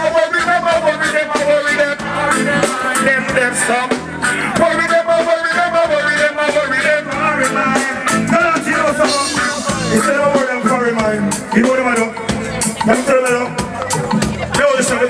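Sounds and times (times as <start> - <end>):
man singing: 0.0 - 15.0
reggae band playing: 0.0 - 15.0
steady drum beat: 0.0 - 15.0.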